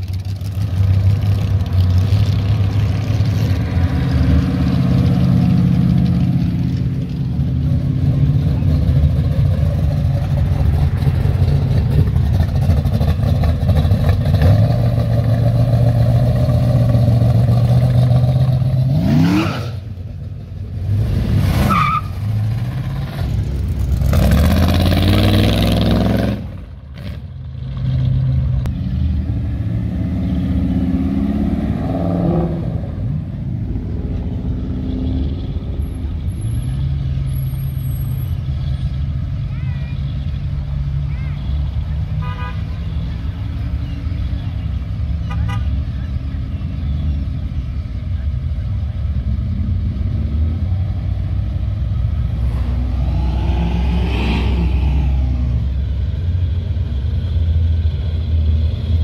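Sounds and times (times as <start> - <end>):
car engines revving: 0.0 - 59.0
cars driving past: 0.0 - 59.0.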